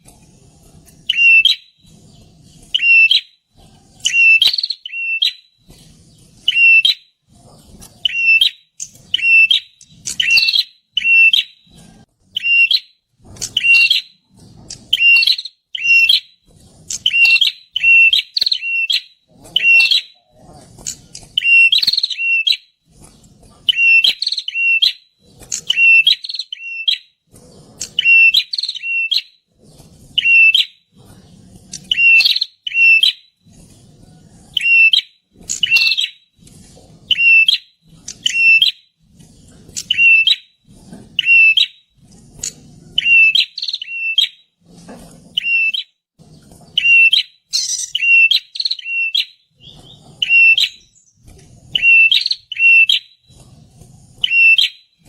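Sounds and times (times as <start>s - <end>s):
bird chirping: 0.0s - 44.4s, 45.4s - 55.0s.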